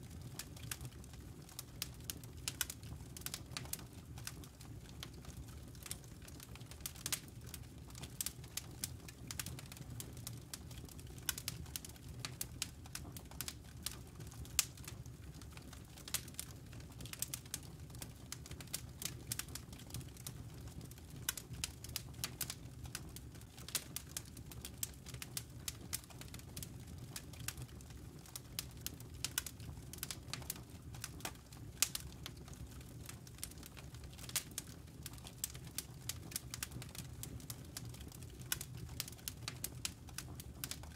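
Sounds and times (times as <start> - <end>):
logs crackling and popping: 0.0 - 40.9
low fire rumble: 0.0 - 40.9.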